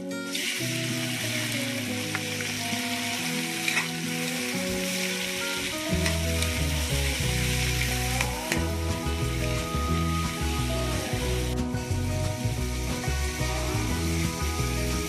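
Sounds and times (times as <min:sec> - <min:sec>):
background music: 0:00.0 - 0:15.0
vegetables sizzling in a wok: 0:00.3 - 0:15.0.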